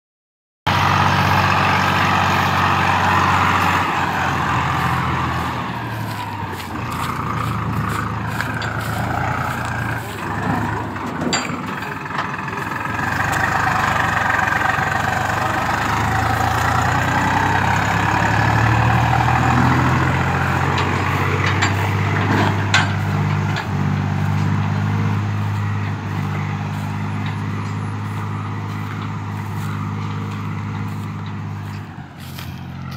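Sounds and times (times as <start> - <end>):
tractor diesel engine running: 0.7 - 32.9.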